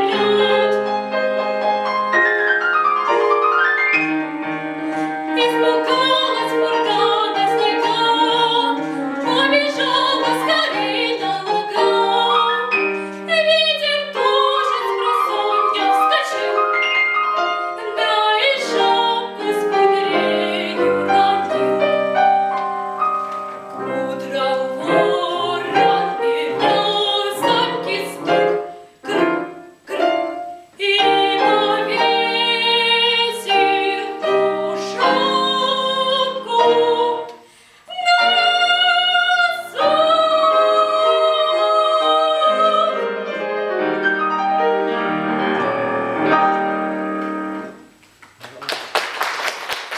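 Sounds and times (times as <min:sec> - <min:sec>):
girl singing classical: 0:00.0 - 0:44.0
piano accompaniment: 0:00.0 - 0:48.2.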